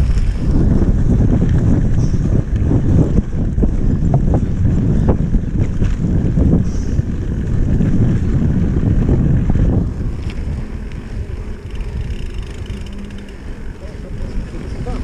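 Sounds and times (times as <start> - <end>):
bike rattling over grass: 0.0 - 15.0
tyres rolling on pavement: 0.0 - 15.0
wind buffeting microphone: 0.0 - 15.0.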